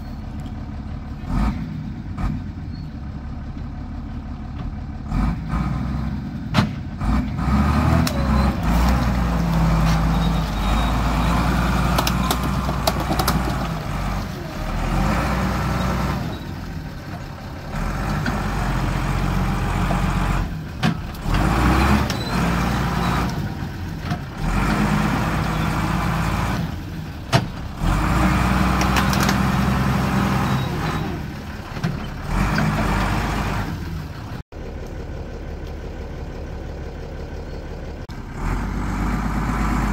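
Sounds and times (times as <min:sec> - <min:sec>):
vehicle engine working hard: 0:00.0 - 0:39.9.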